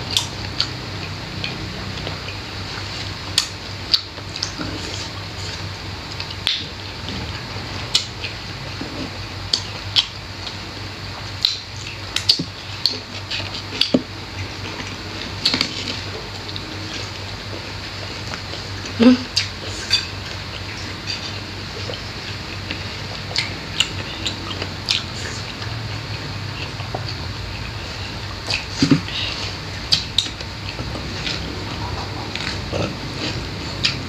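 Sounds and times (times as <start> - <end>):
people chewing with lip smacks: 0.0 - 34.0
steady low hum: 0.0 - 34.0.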